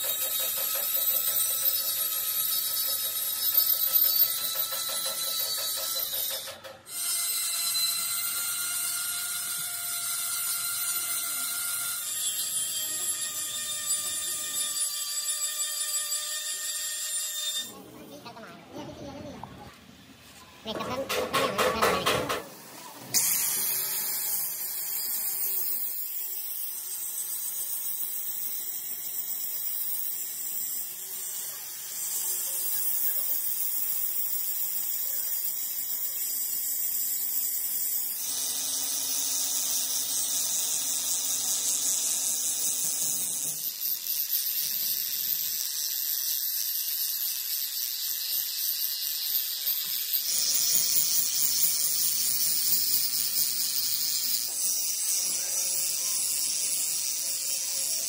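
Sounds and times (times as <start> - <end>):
metalworking machine whine: 0.0 - 17.7, 23.1 - 58.0.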